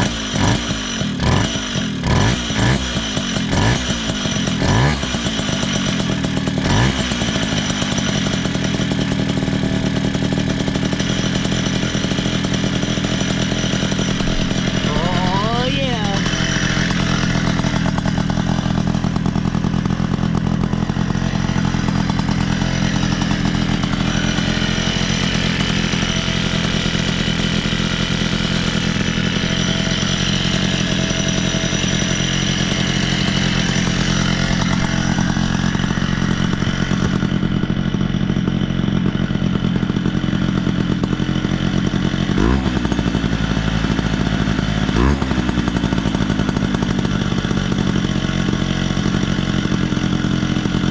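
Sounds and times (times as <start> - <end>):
two-stroke moped engine running: 0.0 - 50.9.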